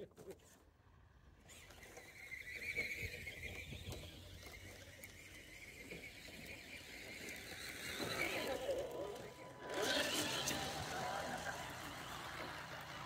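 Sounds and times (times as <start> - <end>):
toy car motor whine: 1.4 - 13.0.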